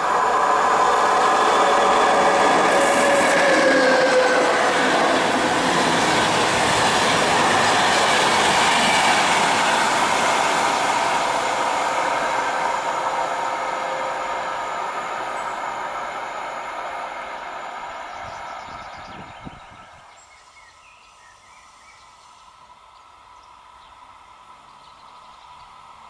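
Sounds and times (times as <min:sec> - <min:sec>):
train coaches rolling past: 0:00.0 - 0:26.0.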